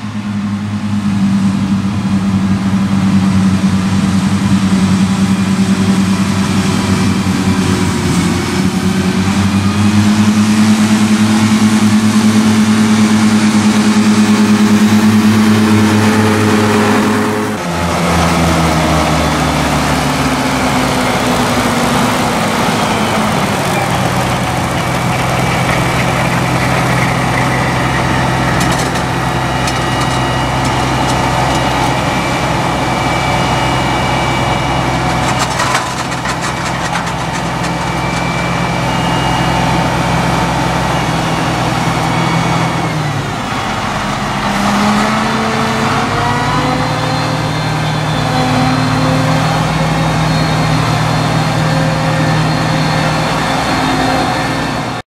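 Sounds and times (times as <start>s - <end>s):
diesel mower engine running: 0.0s - 55.0s.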